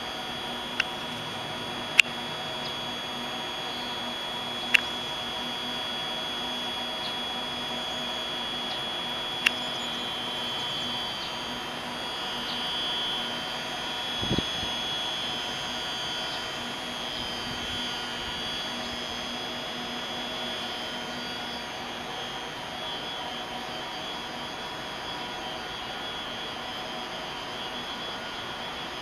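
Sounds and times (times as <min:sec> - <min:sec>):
electric train equipment humming: 0:00.0 - 0:29.0
high whine: 0:00.0 - 0:29.0.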